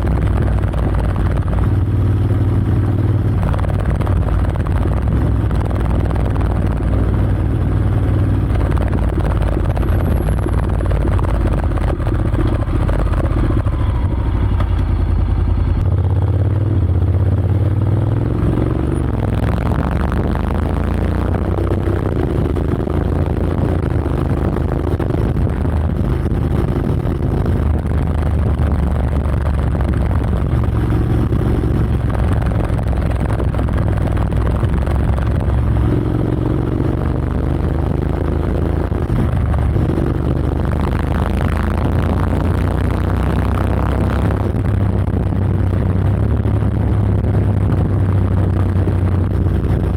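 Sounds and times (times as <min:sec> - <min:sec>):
motorcycle engine exhaust note: 0:00.0 - 0:49.9.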